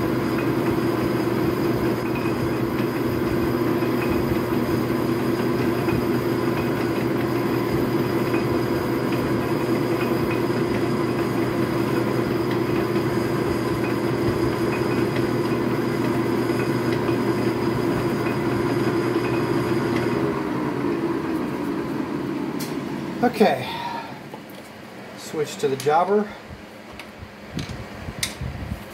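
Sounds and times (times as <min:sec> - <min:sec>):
metal lathe running: 0:00.0 - 0:23.4.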